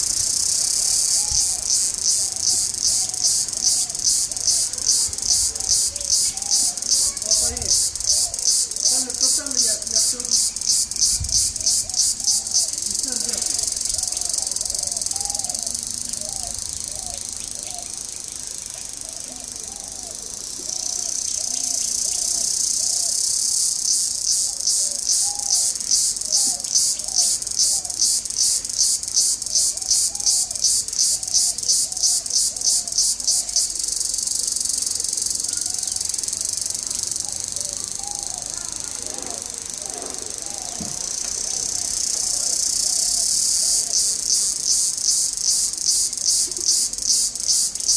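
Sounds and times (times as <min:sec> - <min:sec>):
insect chorus buzzing: 0:00.0 - 0:47.9.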